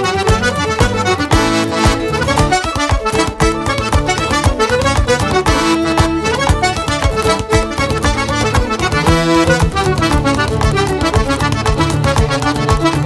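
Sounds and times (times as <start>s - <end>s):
accordion: 0.0s - 13.0s
fiddle: 0.0s - 13.0s
folk band playing lively tune: 0.0s - 13.0s
foot-tapping beat: 0.0s - 13.0s
guitar: 0.0s - 13.0s.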